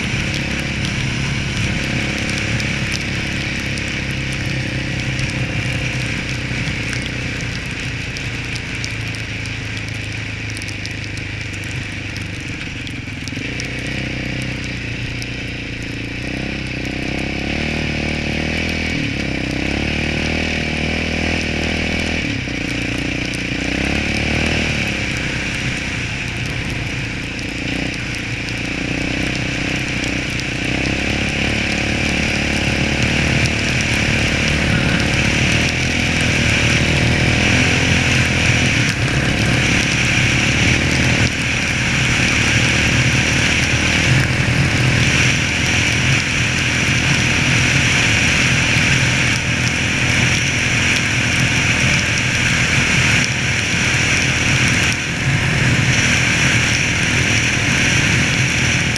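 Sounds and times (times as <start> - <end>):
quad engine running: 0.0 - 58.9.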